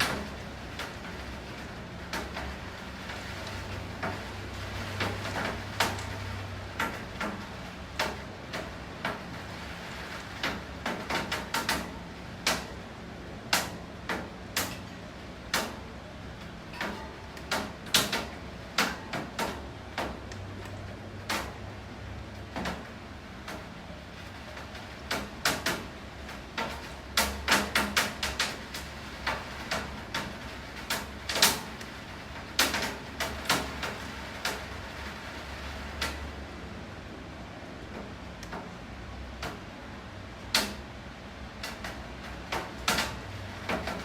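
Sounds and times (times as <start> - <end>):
raindrops tapping hard surface: 0.0 - 36.6, 37.8 - 44.0
rain hiss: 0.0 - 44.0.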